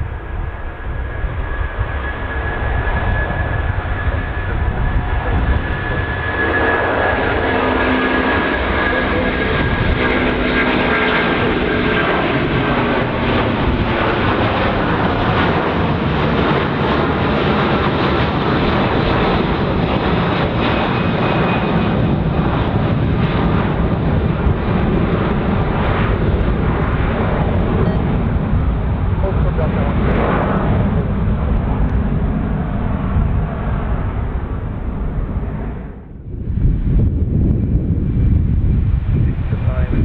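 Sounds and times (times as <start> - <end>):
jet engine roar: 0.0 - 40.0
jet engine whining tones: 0.0 - 40.0.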